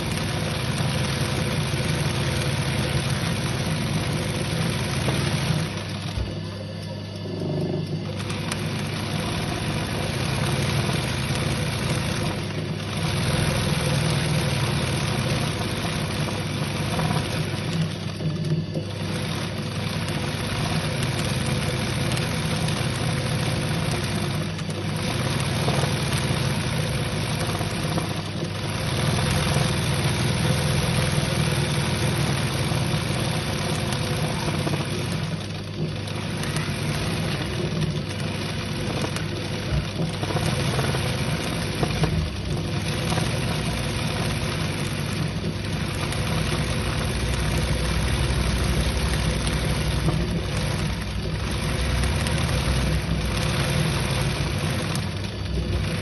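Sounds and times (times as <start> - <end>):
sewing machine stitching: 0.0 - 6.5, 7.2 - 56.0.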